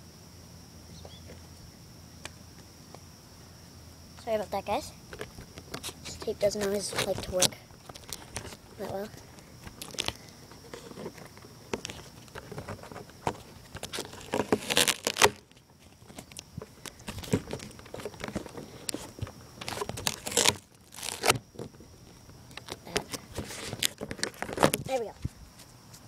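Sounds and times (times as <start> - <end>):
tape rubbing and crinkling on phone: 5.1 - 26.0.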